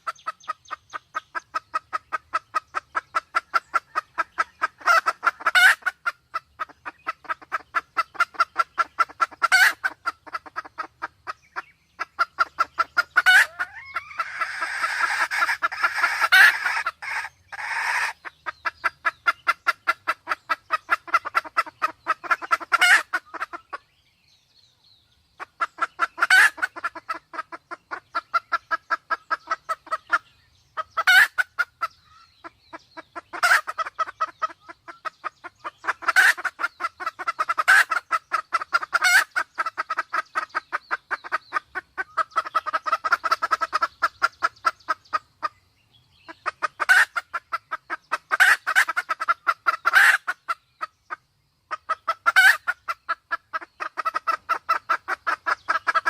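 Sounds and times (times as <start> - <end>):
loud sharp hen calls: 0.0 - 23.8, 25.4 - 30.2, 30.8 - 45.5, 46.3 - 56.0
hen clucking in fast runs: 0.0 - 23.9, 25.4 - 45.6, 46.2 - 56.0.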